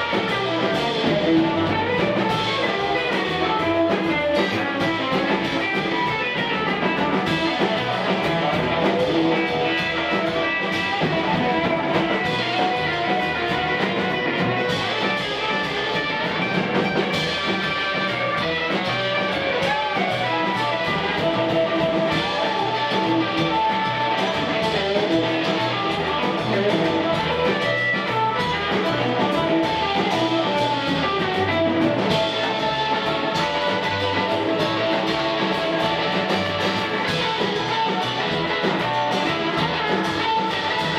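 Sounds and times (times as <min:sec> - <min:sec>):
drums: 0:00.0 - 0:40.9
electric guitar playing: 0:00.0 - 0:40.9
upright double bass: 0:00.0 - 0:40.9.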